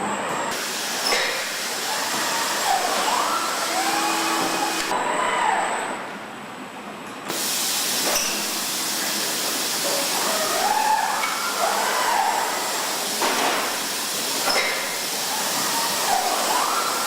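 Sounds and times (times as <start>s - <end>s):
hiss of air and machinery: 0.5s - 5.0s, 7.3s - 17.0s.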